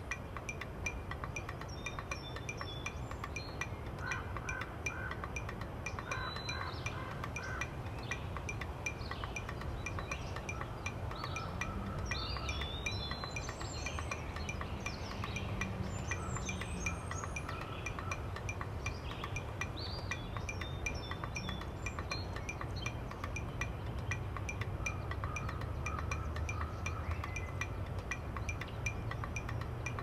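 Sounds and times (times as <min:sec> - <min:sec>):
steady ticking pulse: 0:00.0 - 0:30.0.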